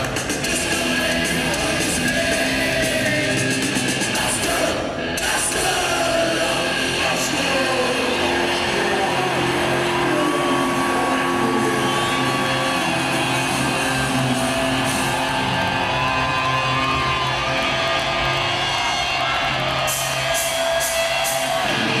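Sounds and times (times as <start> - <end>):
crowd yelling: 0.0 - 22.0
heavy metal band playing live: 0.0 - 22.0.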